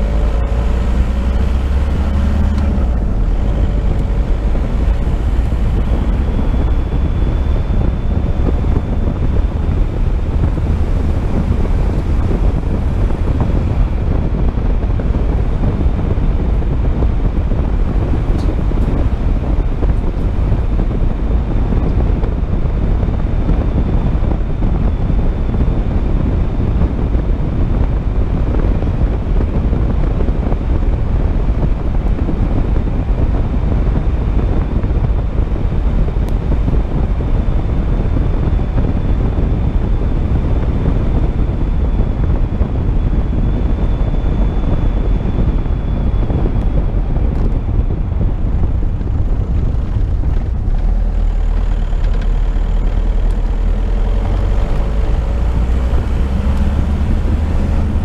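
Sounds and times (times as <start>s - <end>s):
car engine: 0.0s - 58.0s
wind noise: 0.0s - 58.0s.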